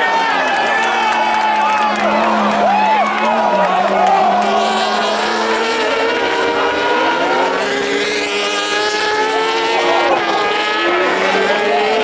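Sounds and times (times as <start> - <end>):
motorcycle engines at high revs: 1.8 - 12.0.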